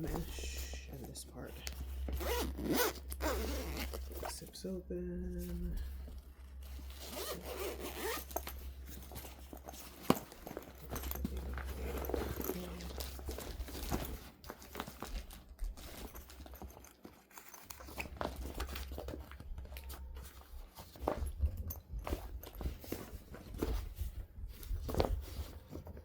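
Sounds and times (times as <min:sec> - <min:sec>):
fabric and packaging rustling: 0:00.0 - 0:26.0.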